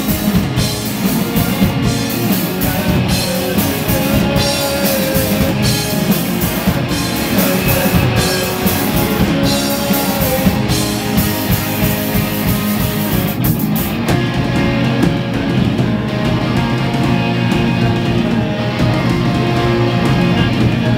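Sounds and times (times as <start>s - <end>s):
distorted electric guitars: 0.0s - 20.9s
drum kit: 0.0s - 20.9s.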